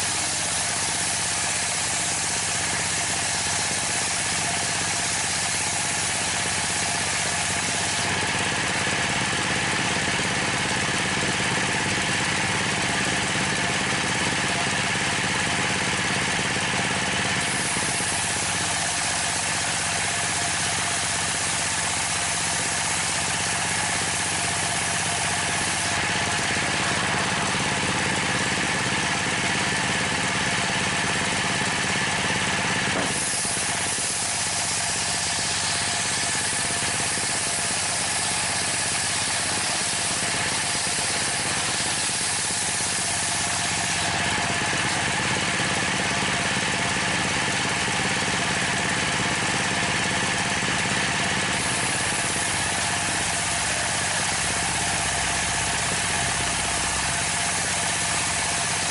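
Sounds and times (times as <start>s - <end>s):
circular saw cutting wood: 0.0s - 58.9s
diesel engine running: 0.0s - 58.9s.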